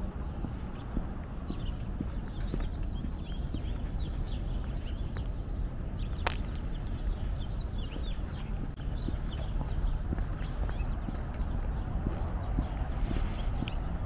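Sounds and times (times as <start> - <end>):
birds chirping: 0.0 - 14.0
footsteps on pavement: 0.0 - 14.0
steady low rumble: 0.0 - 14.0.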